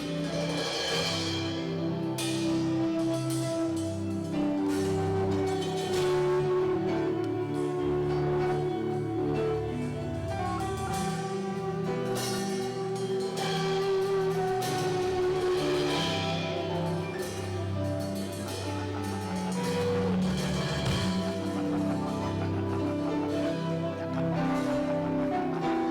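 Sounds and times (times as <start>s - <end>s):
instrumental worship music: 0.0s - 25.9s
light drum and cymbal strokes: 0.0s - 25.9s.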